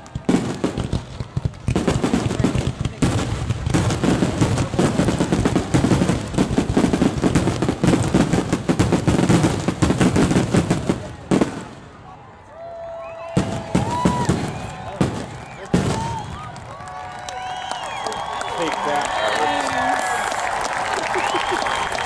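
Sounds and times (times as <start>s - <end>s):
fireworks bursting and crackling: 0.0s - 12.1s, 13.3s - 22.0s.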